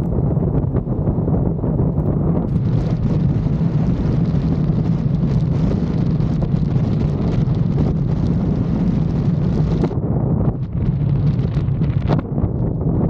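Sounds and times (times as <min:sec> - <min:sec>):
low drone: 0:00.0 - 0:13.0
wind buffeting microphone: 0:00.0 - 0:13.0.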